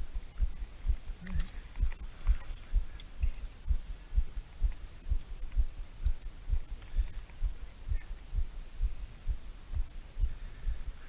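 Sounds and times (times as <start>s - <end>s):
muffled low thumping: 0.0s - 11.0s.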